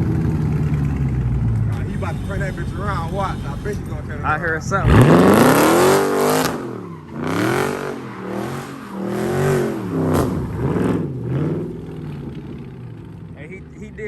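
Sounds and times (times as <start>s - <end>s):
car engine revving: 1.4s - 13.2s.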